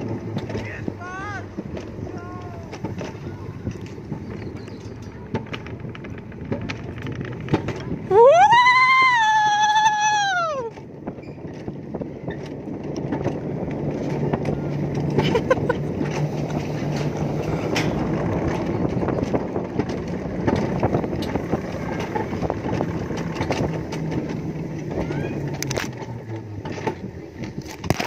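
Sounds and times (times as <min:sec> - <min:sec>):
sled rolling on steel rails: 0:00.0 - 0:28.0
track clicks and rattles: 0:00.0 - 0:28.0.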